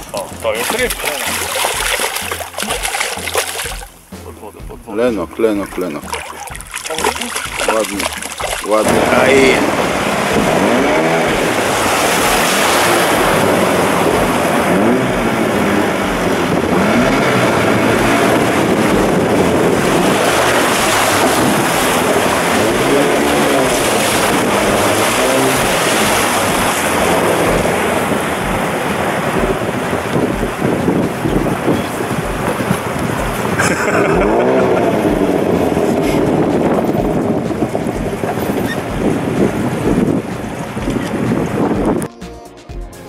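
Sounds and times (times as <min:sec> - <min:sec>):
rushing water: 0:00.0 - 0:42.1
boat motor running: 0:00.0 - 0:42.9
wind on microphone: 0:05.6 - 0:42.2.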